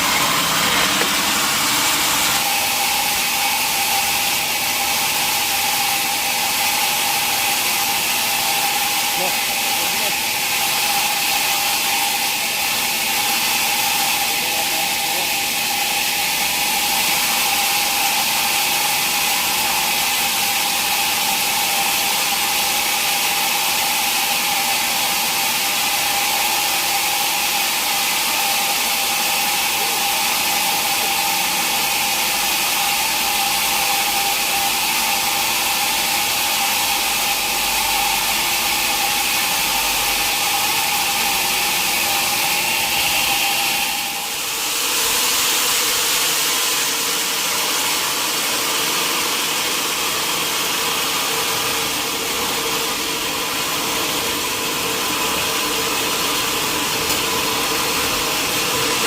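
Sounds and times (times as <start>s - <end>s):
saw cutting wood: 0.0s - 59.0s.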